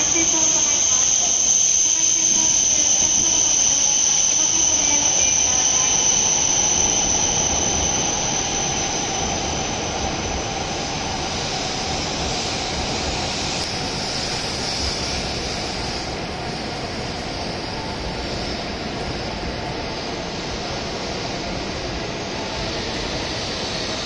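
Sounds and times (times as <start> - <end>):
high-pitched brake squeal: 0.0 - 21.2
train wheels rumbling: 0.0 - 24.0.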